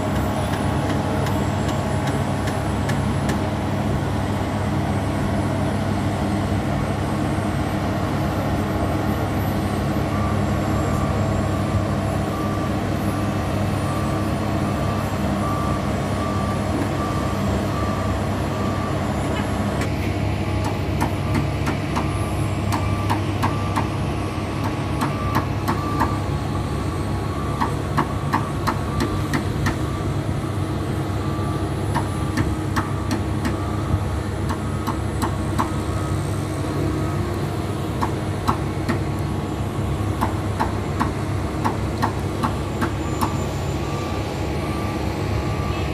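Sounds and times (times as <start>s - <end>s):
reversing alarm beeping: 0.0s - 3.2s, 8.9s - 45.9s
heavy machinery running: 0.0s - 45.9s.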